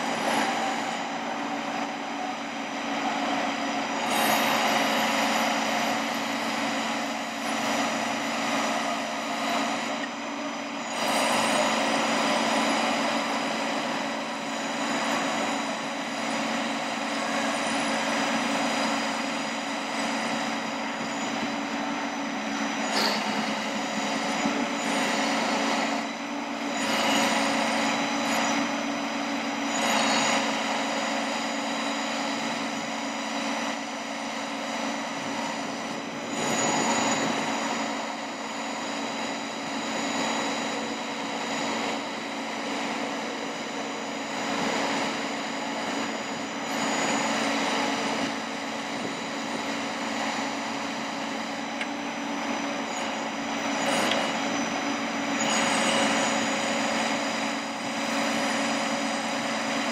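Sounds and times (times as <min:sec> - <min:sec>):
hydraulic pump whining: 0:00.0 - 0:59.9
truck engine hum: 0:00.0 - 0:59.9.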